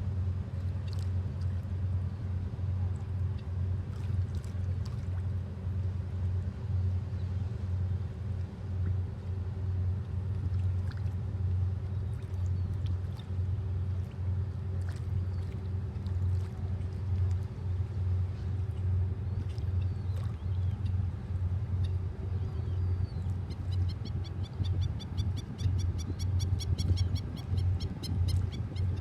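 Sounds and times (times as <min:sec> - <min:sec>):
faint constant hum: 0:00.0 - 0:29.0
ship engine low rumble: 0:00.0 - 0:29.0.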